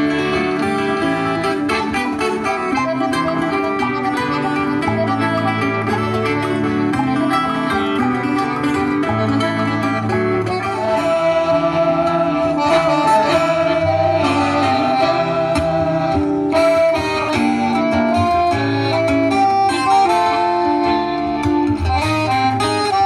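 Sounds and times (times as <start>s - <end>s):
long held melody notes: 0.0s - 23.0s
plucked acoustic strings: 0.0s - 23.0s.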